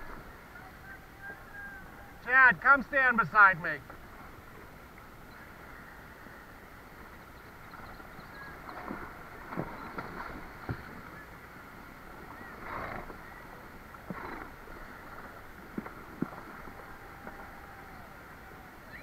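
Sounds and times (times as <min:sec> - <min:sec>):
horses splashing: 0:00.0 - 0:19.0
rushing river water: 0:00.0 - 0:19.0.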